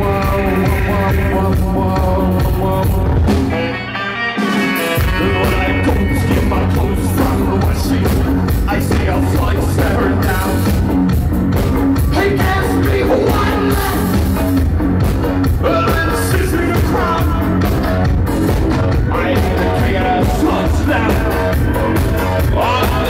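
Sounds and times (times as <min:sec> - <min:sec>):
drum beat: 0:00.0 - 0:03.7, 0:04.4 - 0:23.0
person singing: 0:00.0 - 0:10.8, 0:11.9 - 0:14.5, 0:15.4 - 0:17.8, 0:18.9 - 0:23.0
bass: 0:00.0 - 0:23.0
electric guitar: 0:00.0 - 0:23.0.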